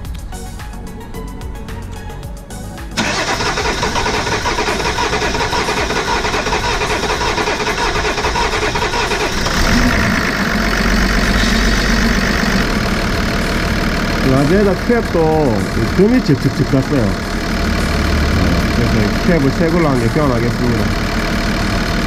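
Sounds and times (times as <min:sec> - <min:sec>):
car engine running: 0:03.0 - 0:22.0.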